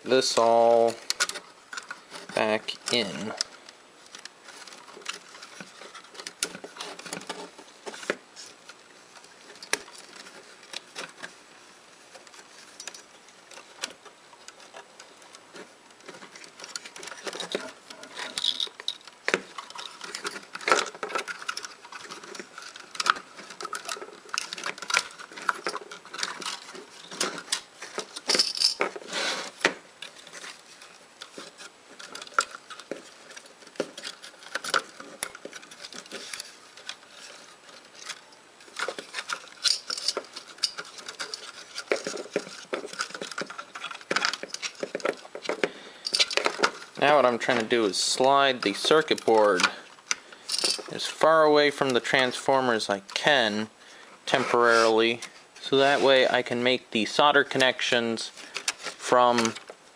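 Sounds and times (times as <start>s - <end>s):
wires rustling: 0.0s - 59.9s.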